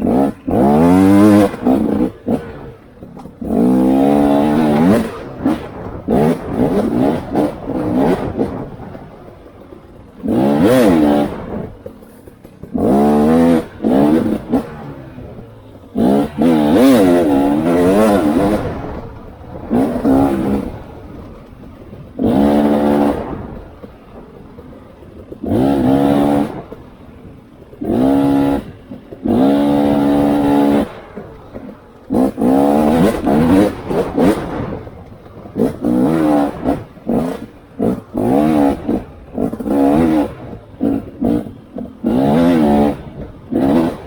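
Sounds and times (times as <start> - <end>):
clatter: 0.0 - 44.0
off-road vehicle engine revving: 0.0 - 44.0.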